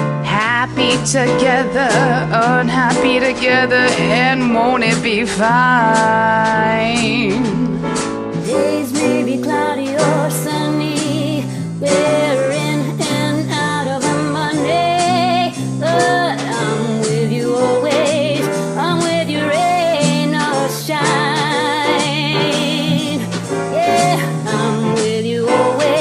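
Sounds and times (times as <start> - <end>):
jazz band playing a ballad: 0.0 - 26.0
walking bass: 0.0 - 26.0.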